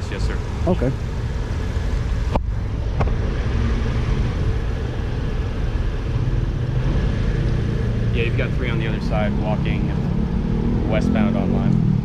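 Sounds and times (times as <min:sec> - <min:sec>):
motor vehicles rumbling: 0:00.0 - 0:12.0.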